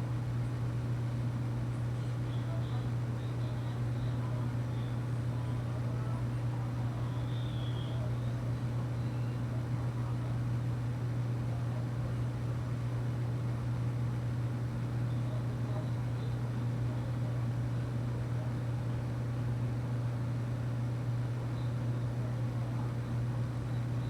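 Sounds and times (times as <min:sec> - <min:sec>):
low hum with faint hiss: 0:00.0 - 0:24.0.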